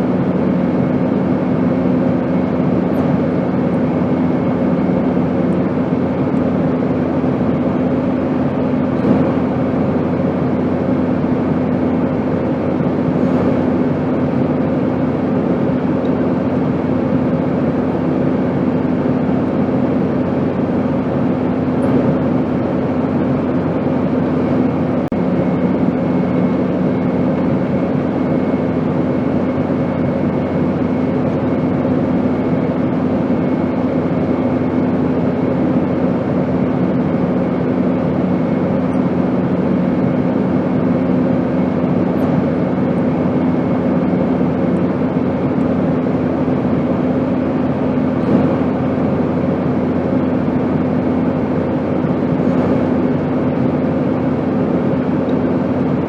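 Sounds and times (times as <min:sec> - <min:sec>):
airplane drone: 0:00.0 - 0:56.0.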